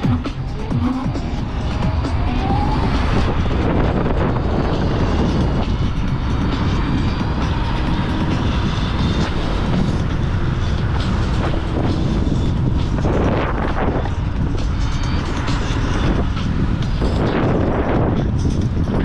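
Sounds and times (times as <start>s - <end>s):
road noise: 0.0s - 19.0s
wind rumble on microphone: 0.0s - 19.0s.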